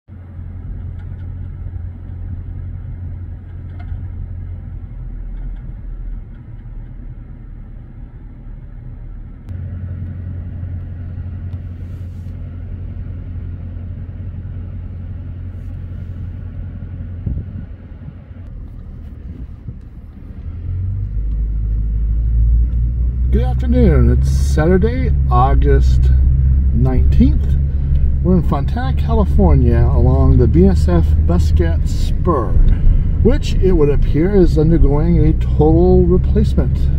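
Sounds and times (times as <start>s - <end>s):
car rumbling: 0.1s - 36.9s.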